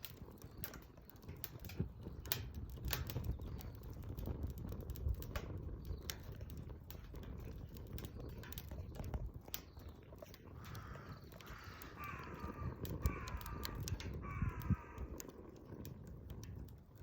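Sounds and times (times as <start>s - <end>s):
flames rushing: 0.0s - 17.0s
wood fire crackling: 0.0s - 17.0s.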